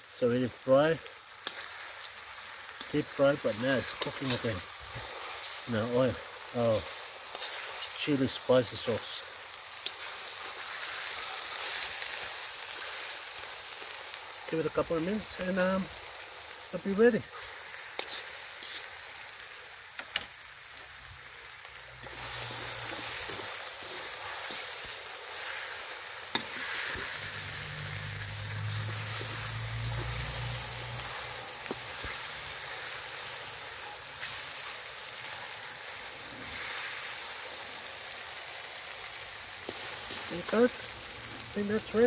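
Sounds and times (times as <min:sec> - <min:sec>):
food sizzling in a wok: 0:00.0 - 0:42.0.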